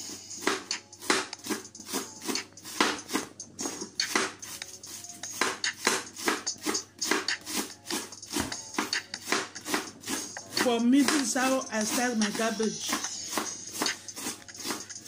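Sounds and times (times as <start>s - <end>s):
knife shredding cabbage on board: 0.4s - 3.3s, 4.0s - 15.0s.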